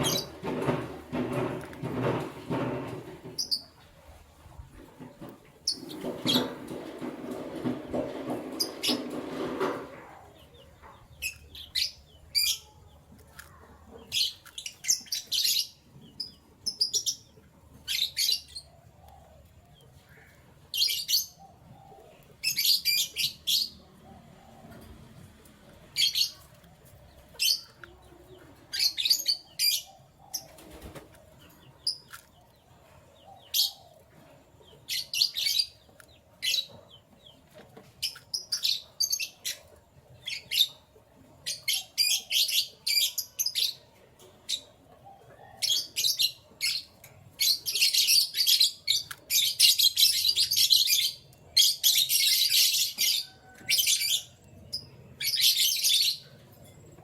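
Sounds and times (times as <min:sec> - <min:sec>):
canaries chirping: 0:00.0 - 0:57.0.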